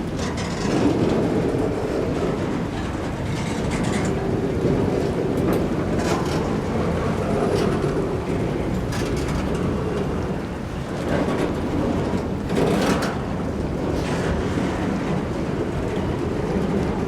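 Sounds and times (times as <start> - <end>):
freight train rumbling: 0.0 - 17.0
train clanks: 0.0 - 17.0.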